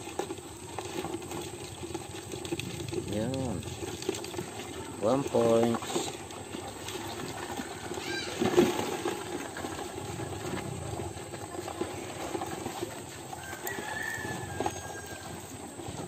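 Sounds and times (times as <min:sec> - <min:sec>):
crabs clattering in plastic bucket: 0:00.0 - 0:16.0.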